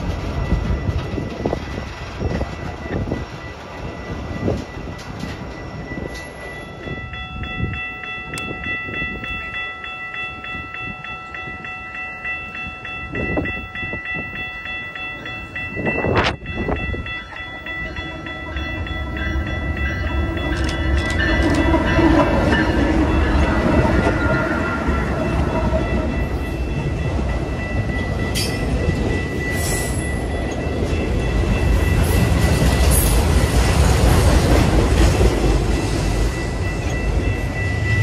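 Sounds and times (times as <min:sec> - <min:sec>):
high ringing tones: 0:00.0 - 0:38.0
train rumbling on rails: 0:00.0 - 0:38.0.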